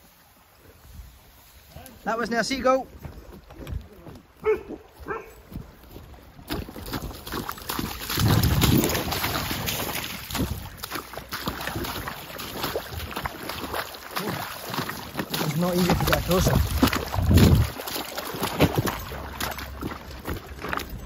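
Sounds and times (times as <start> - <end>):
wind rumbling on microphone: 2.8 - 13.8, 14.7 - 21.0
water splashing over stones: 3.6 - 21.0.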